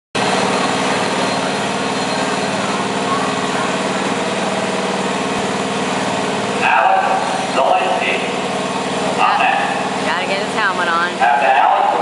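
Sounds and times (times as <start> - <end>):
garden tractor engine idling: 0.2 - 12.0.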